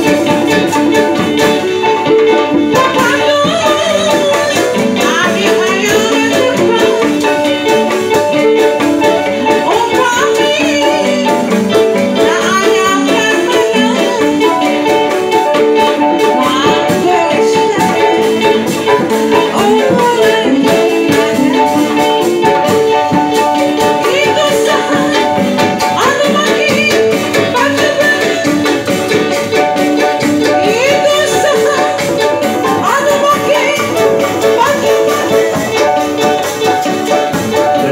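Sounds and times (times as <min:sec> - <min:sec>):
woman singing into microphone: 0:00.0 - 0:08.6, 0:09.2 - 0:28.9, 0:30.0 - 0:37.9
electronic keyboard: 0:00.0 - 0:37.9
hand drums: 0:00.0 - 0:37.9
large drum: 0:00.0 - 0:37.9.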